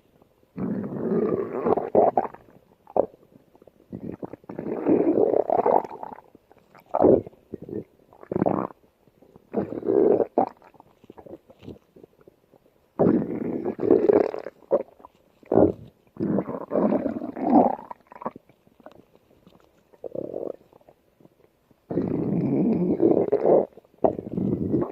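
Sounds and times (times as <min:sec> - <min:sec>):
stomach growling: 0:00.2 - 0:24.9.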